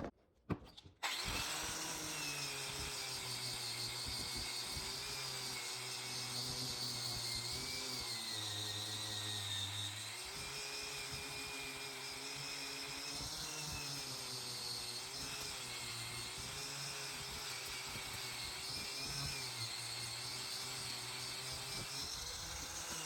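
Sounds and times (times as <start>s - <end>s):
small power tool motor under load: 0.7s - 23.0s.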